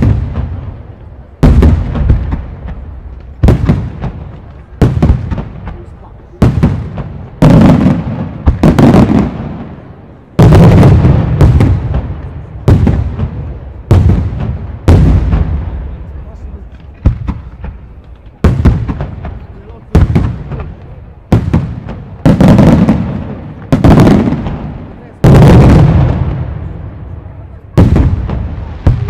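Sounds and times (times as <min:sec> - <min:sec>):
firework shells booming: 0:00.0 - 0:29.0.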